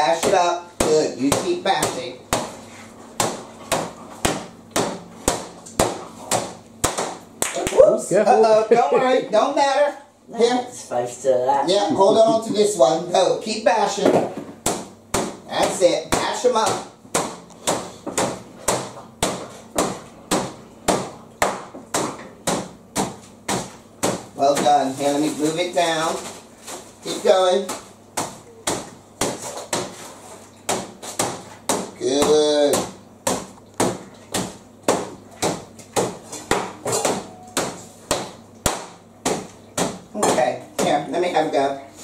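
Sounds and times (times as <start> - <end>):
rolling pin bashing biscuits: 0.0 - 7.6, 13.9 - 41.4.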